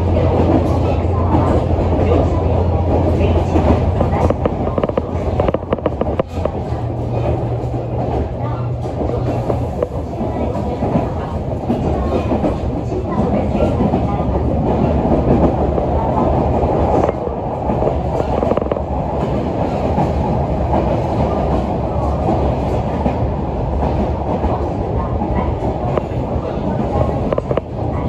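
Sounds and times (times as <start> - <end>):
rail joint clicks: 0.0 - 28.0
train wheels rumbling on rail: 0.0 - 28.0.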